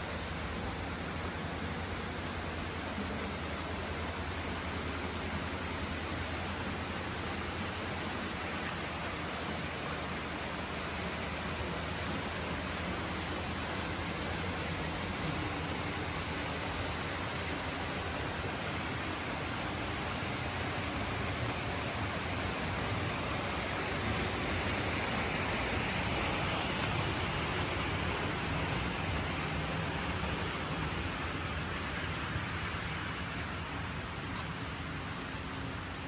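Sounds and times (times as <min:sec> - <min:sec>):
steady rushing noise: 0:00.0 - 0:36.0.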